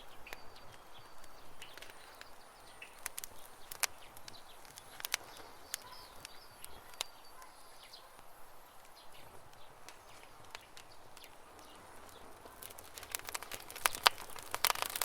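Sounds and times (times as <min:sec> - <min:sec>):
birds chirping: 0:00.0 - 0:15.0
campfire crackling and popping: 0:00.0 - 0:15.0.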